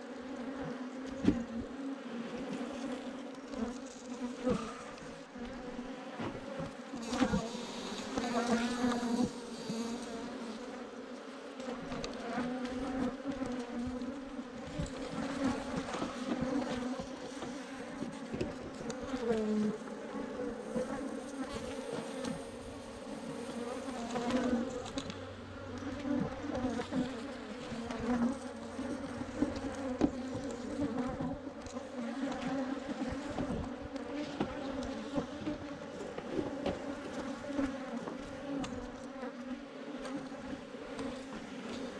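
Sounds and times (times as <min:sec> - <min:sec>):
bees buzzing: 0:01.7 - 0:11.7, 0:12.4 - 0:38.8.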